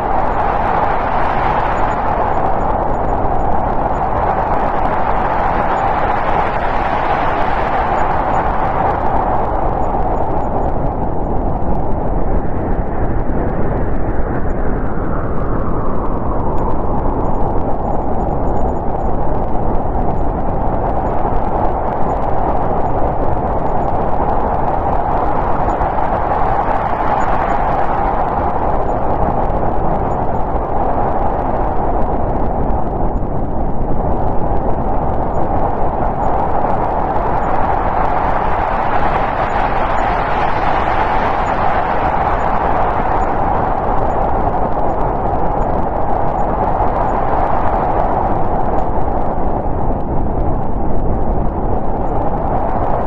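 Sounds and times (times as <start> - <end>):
howling wind: 0.0 - 53.0.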